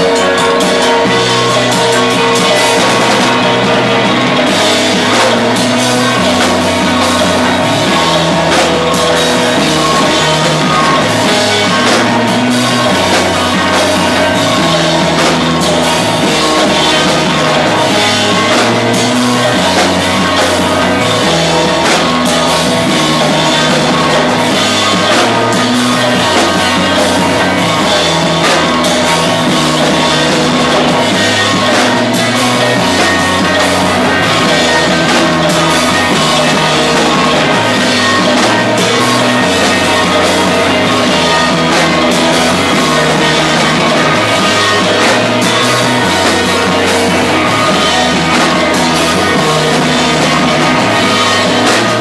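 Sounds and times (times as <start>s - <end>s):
bass line: 0.0s - 52.0s
drum kit with cymbals: 0.0s - 52.0s
electric guitars: 0.0s - 52.0s.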